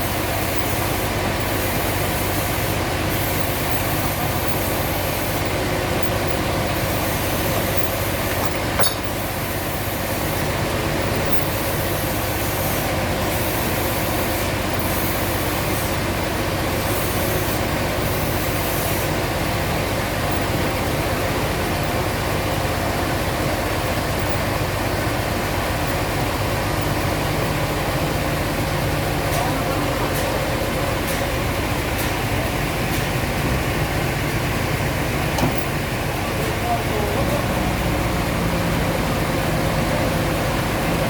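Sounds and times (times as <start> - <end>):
sawmill machinery humming: 0.0 - 41.0.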